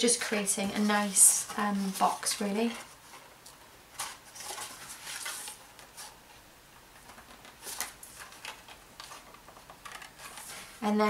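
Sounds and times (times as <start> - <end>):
cardstock rustling and scraping: 0.3 - 10.8.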